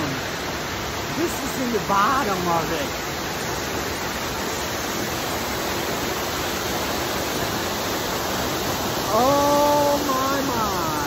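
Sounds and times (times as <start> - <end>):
waterfall falling onto rocks: 0.0 - 11.0.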